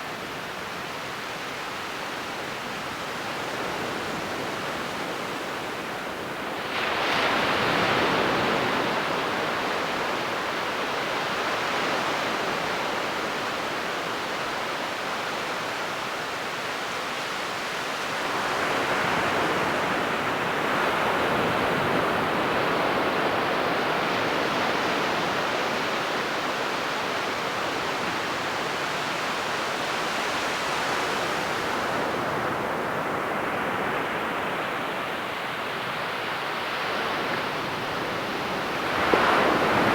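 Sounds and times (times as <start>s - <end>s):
ocean surf washing onto beach: 2.1s - 39.9s.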